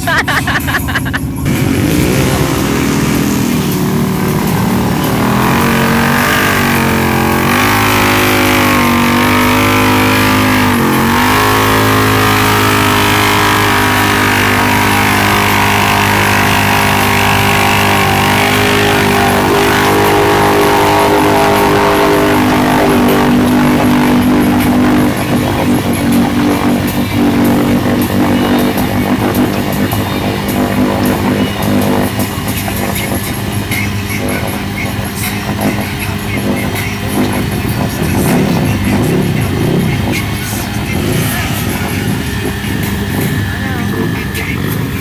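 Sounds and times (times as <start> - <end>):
engine running hard under load: 0.0 - 45.0.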